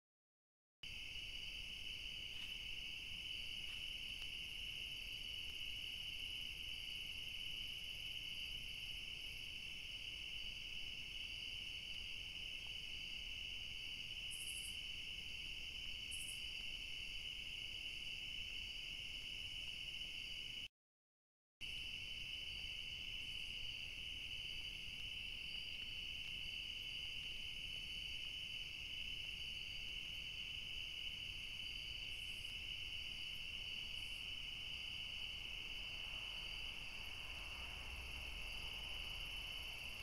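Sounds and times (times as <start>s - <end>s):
crickets and insects trilling: 0.8s - 20.7s, 21.6s - 40.0s.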